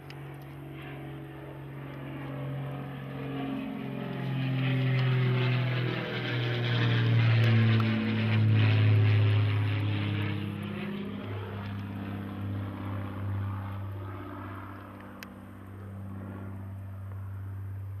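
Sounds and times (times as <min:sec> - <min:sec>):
airplane engine droning overhead: 0:00.0 - 0:18.0.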